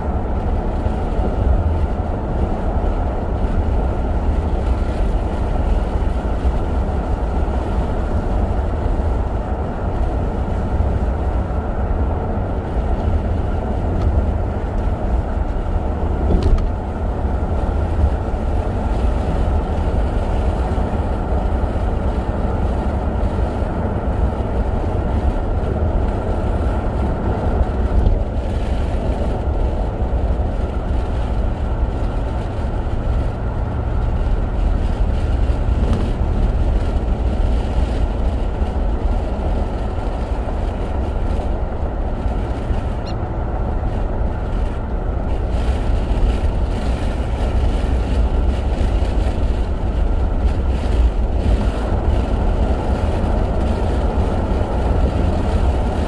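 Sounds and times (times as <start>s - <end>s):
car road and engine noise: 0.0s - 56.0s
deep low rumble: 0.0s - 56.0s.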